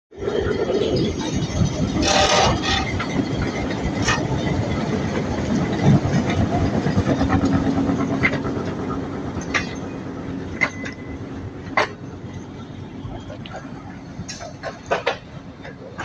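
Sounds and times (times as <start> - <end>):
train rumbling on track: 0.1 - 16.0.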